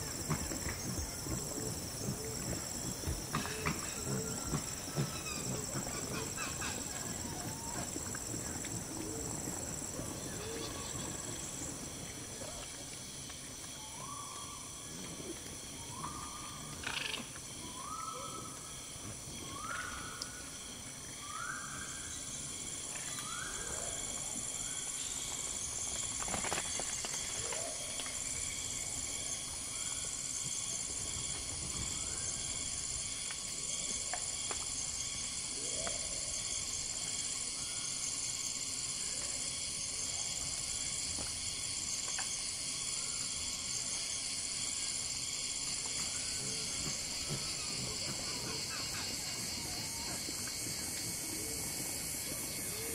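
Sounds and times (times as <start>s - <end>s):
high insect drone: 0.0s - 52.9s.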